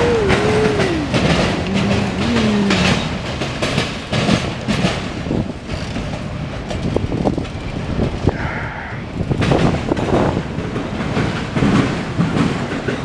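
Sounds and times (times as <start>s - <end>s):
wheels knocking over rail joints: 0.0s - 8.3s, 9.2s - 13.0s
freight train rumbling past: 0.0s - 13.0s.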